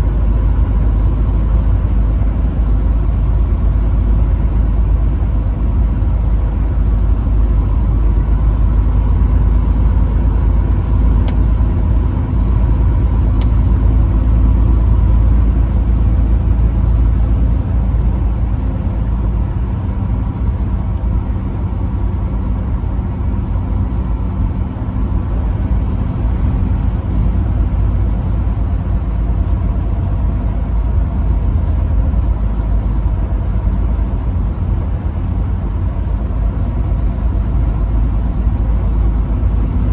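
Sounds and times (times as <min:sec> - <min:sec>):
low road rumble: 0:00.0 - 0:39.9
truck engine running: 0:00.0 - 0:39.9.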